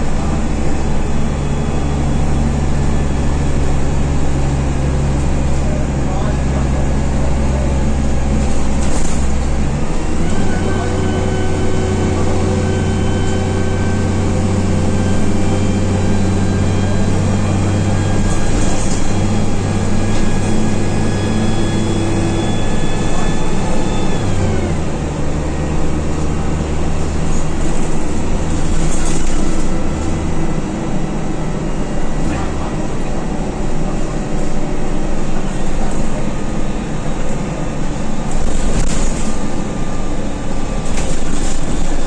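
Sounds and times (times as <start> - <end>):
bus diesel engine droning with whine: 0.0 - 42.0.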